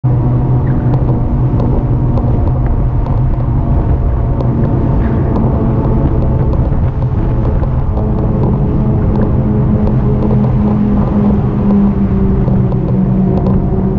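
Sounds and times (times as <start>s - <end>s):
electric bike riding rumble: 0.0s - 13.9s
faint ticks: 0.7s - 13.9s.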